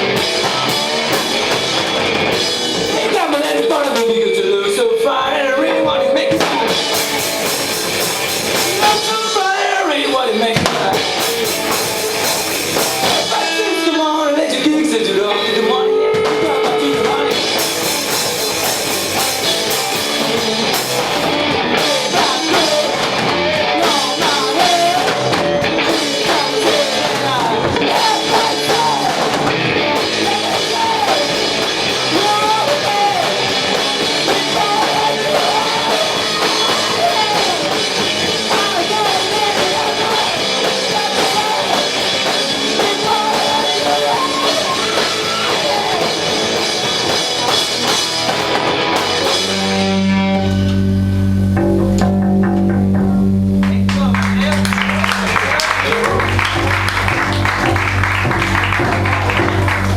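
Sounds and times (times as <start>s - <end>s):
drum kit: 0.0s - 4.3s, 6.2s - 59.9s
electric guitar: 0.0s - 59.9s.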